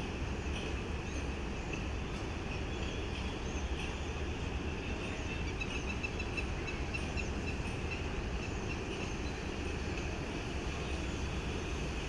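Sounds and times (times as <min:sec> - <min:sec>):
distant city traffic rumble: 0:00.0 - 0:12.0.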